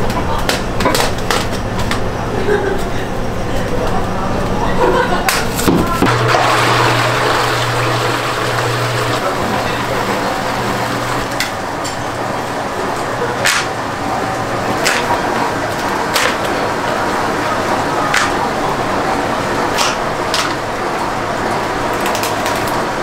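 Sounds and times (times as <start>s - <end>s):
rushing kitchen noise: 0.0s - 23.0s.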